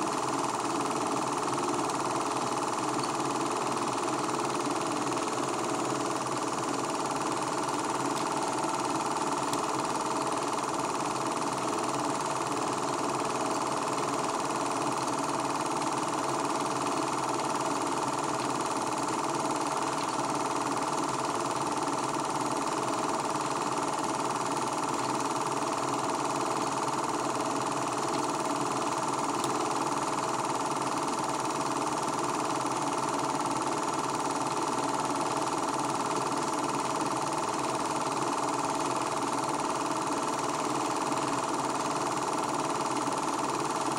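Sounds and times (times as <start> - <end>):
film projector whirring: 0.0 - 43.9.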